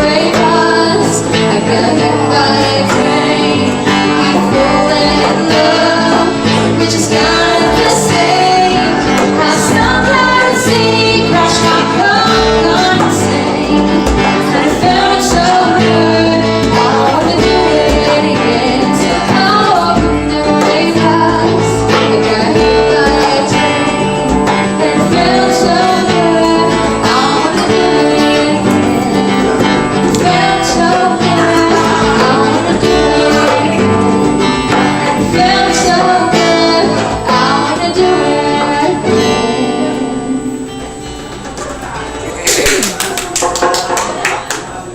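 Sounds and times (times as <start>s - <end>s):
person singing: 0.0s - 40.9s
acoustic guitar strumming: 0.0s - 44.9s.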